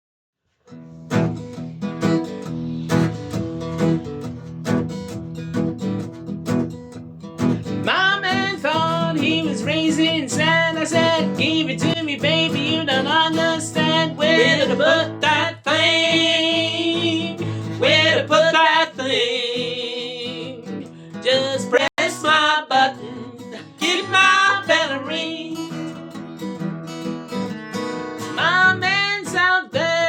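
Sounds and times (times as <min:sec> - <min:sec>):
acoustic guitar plucked notes: 0:00.7 - 0:30.0.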